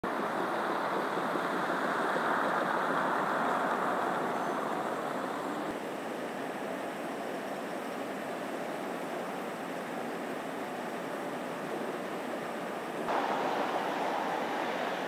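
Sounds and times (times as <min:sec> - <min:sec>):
outdoor ambient rushing noise: 0:00.0 - 0:15.0.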